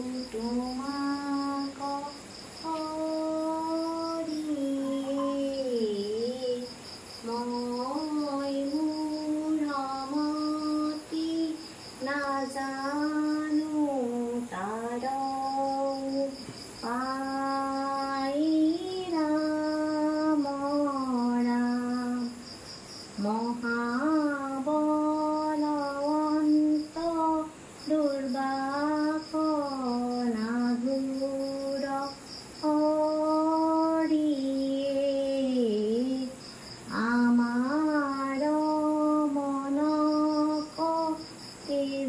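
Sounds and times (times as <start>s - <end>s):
woman singing unaccompanied: 0.0s - 42.0s.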